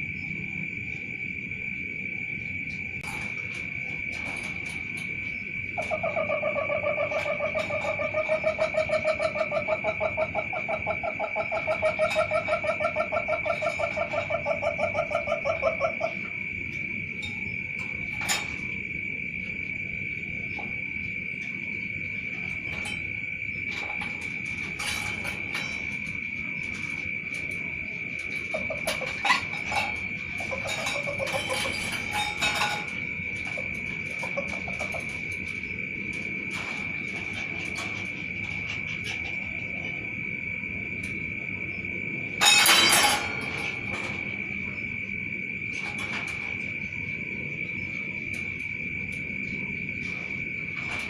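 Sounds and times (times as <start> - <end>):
high insect drone: 0.0 - 51.0.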